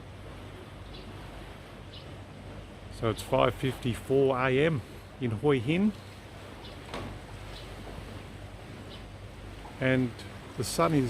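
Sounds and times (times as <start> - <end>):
sea surf: 0.0 - 11.0
wind: 0.0 - 11.0.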